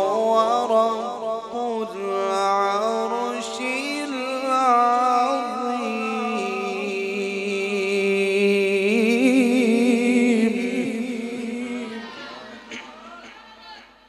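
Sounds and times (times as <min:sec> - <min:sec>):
man reciting long melodic note: 0:00.0 - 0:13.4.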